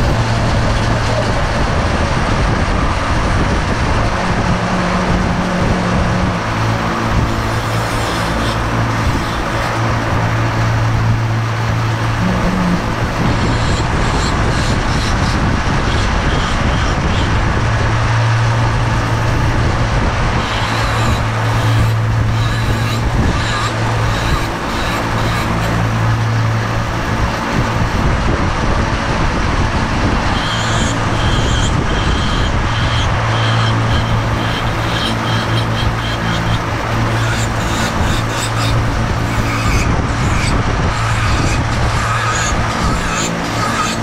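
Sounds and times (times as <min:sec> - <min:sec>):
rotary tool grinding wood: 0:00.0 - 0:28.2, 0:29.7 - 0:44.0.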